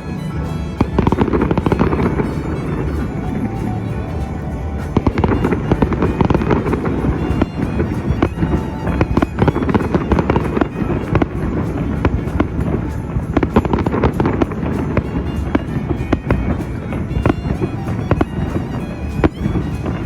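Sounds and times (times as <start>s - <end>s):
fireworks bangs and crackles: 0.0s - 20.0s
music playing: 0.0s - 20.0s.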